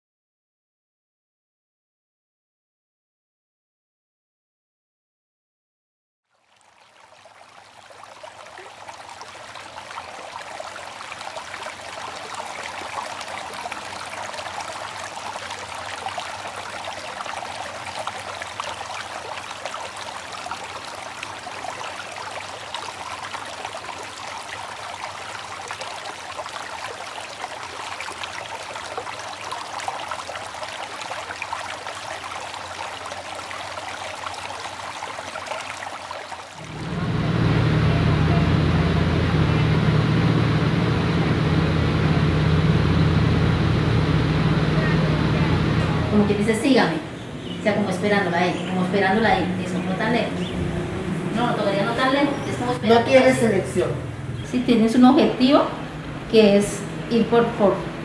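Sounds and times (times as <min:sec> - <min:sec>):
running water rushing: 0:06.3 - 0:58.0.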